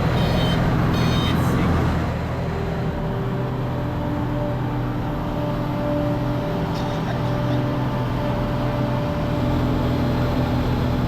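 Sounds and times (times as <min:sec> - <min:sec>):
propeller plane engine running: 0:00.0 - 0:11.0.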